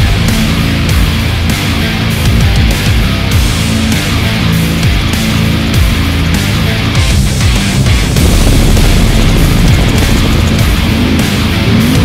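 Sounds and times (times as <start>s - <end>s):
loud heavy metal music: 0.0s - 12.0s.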